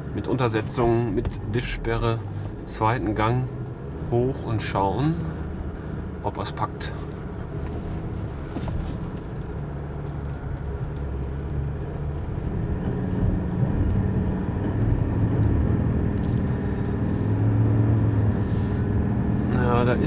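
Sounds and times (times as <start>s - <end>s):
diesel engine labouring: 0.0s - 20.0s.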